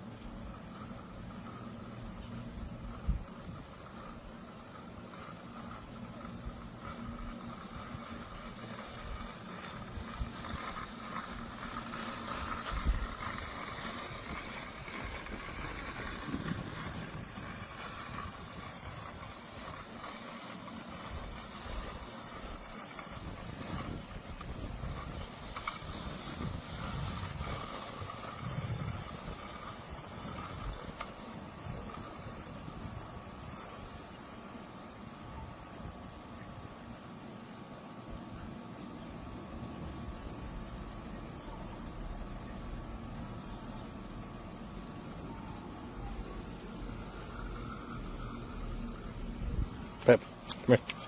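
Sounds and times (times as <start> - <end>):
outdoor noise: 0.0 - 51.0
robotic lawn mower motor whine: 0.0 - 51.0.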